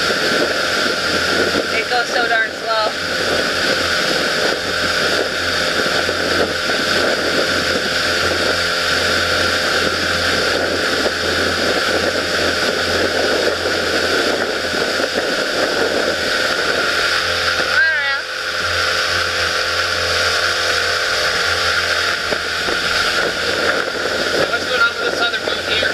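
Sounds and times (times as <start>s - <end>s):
boat motor droning: 0.0s - 25.9s
rush of water: 0.0s - 25.9s
wind rushing: 0.0s - 25.9s.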